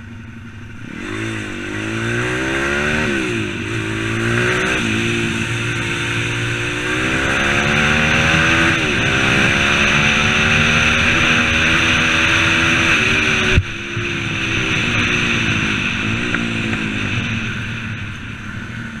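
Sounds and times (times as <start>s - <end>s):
motorbike engine revving: 0.0s - 19.0s.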